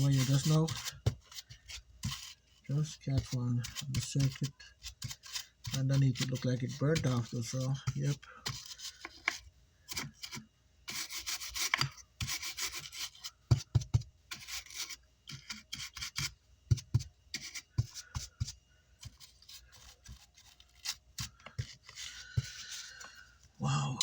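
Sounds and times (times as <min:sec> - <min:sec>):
tool scraping circuit board: 0:00.0 - 0:23.1.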